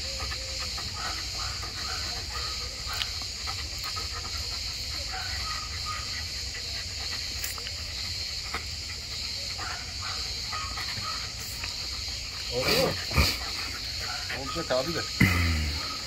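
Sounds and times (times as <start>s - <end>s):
high-pitched insect chorus: 0.0s - 16.0s
large dog panting: 0.0s - 16.0s.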